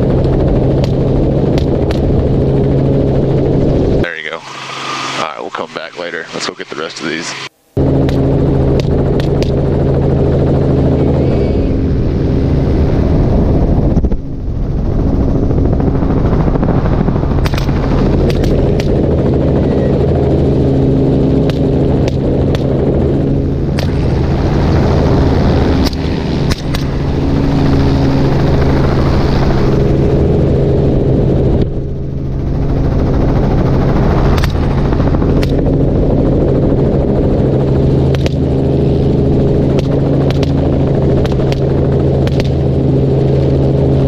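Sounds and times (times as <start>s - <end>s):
helicopter flying: 0.0s - 44.0s.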